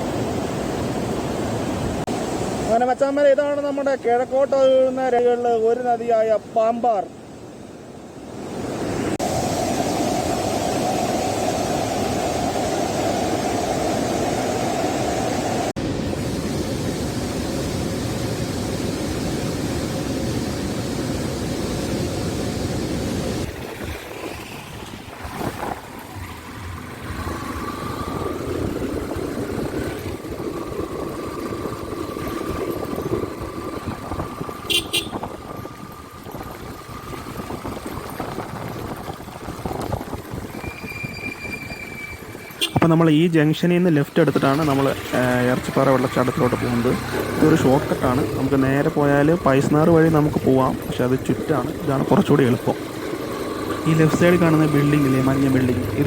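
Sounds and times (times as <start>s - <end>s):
river rushing loudly: 0.0s - 36.2s, 40.2s - 56.0s
vehicle engine hum: 8.3s - 43.3s, 43.9s - 56.0s.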